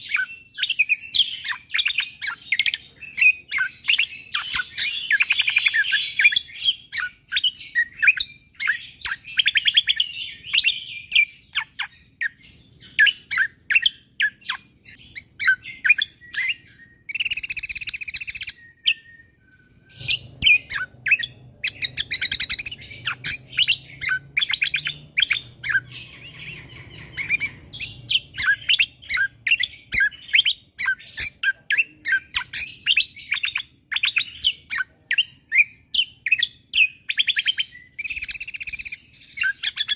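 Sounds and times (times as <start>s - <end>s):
buzzy bird trill: 0.0s - 39.9s
songbird chirping: 0.0s - 39.9s.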